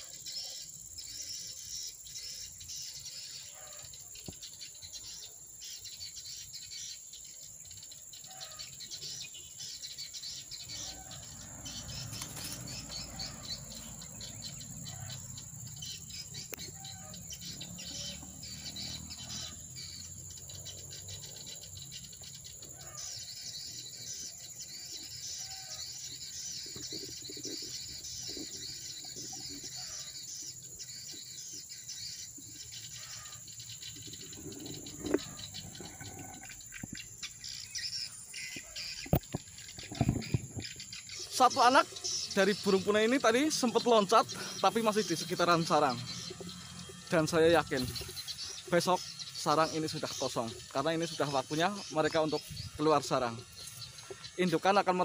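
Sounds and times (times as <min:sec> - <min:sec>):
insects buzzing high-pitched: 0:00.0 - 0:55.0
small birds chirping: 0:00.0 - 0:55.0.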